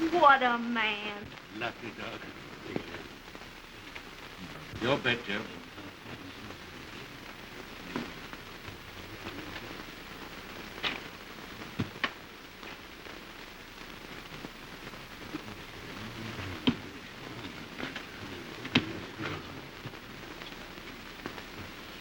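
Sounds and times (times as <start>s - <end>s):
film soundtrack hiss and crackle: 0.0s - 22.0s.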